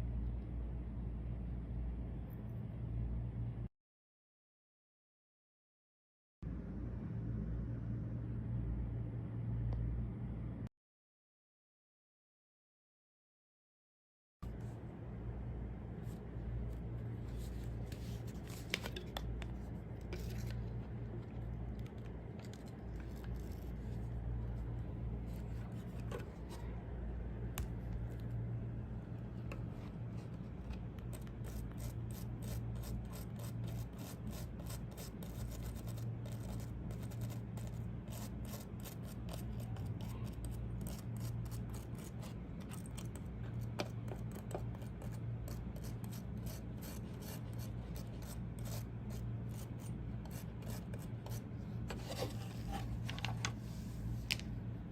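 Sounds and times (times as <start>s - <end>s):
steady low hum: 0.0s - 3.7s, 6.4s - 10.7s, 14.4s - 54.9s.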